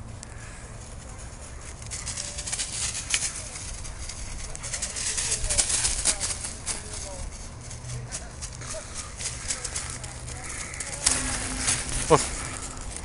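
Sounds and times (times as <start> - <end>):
footsteps crunching dry leaves: 0.4 - 13.0.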